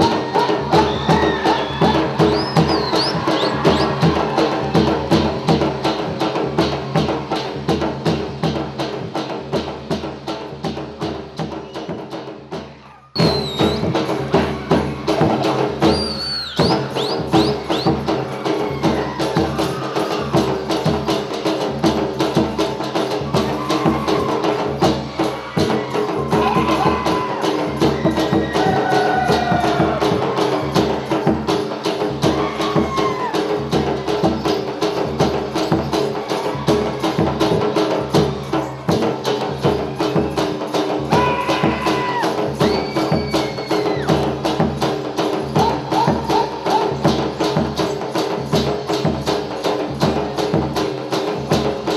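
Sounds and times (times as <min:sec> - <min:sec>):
fast percussion beat: 0:00.0 - 0:51.9.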